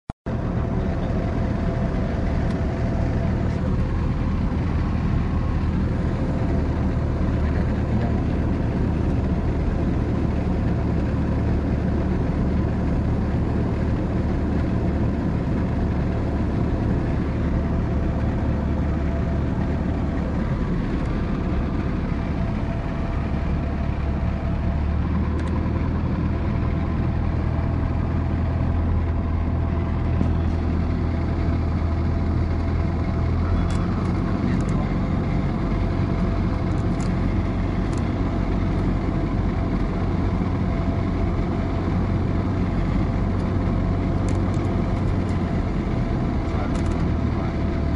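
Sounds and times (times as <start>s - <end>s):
light plane engine and propeller: 0.3s - 47.9s.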